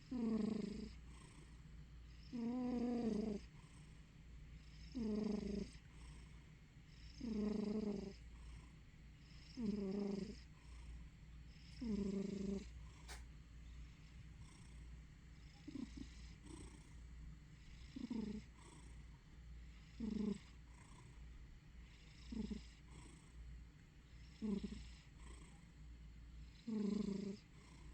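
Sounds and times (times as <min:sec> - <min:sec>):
cat snoring and purring: 0:00.0 - 0:13.2, 0:13.9 - 0:27.9.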